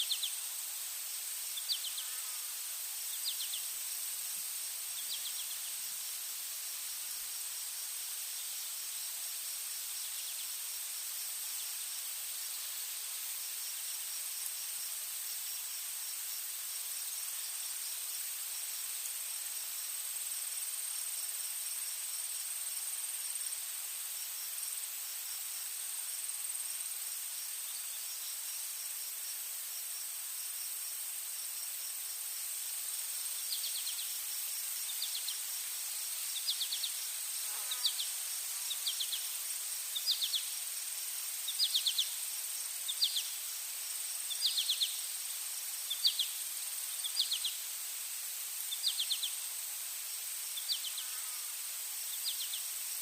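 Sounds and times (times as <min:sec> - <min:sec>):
insect chirps of rapid pulses: 0:00.0 - 0:53.0
insects droning: 0:00.0 - 0:53.0.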